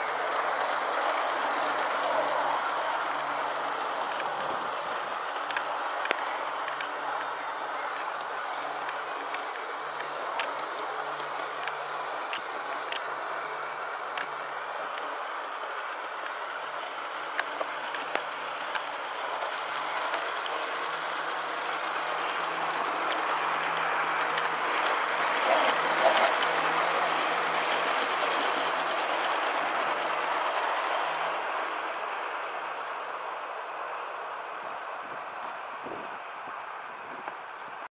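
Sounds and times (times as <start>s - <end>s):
model train rolling on track: 0.0s - 37.9s.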